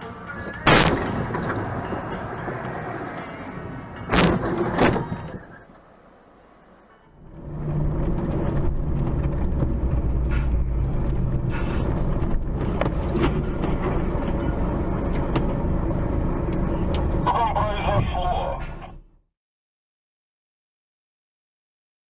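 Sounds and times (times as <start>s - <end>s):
vehicle engine and road noise: 0.0s - 19.3s.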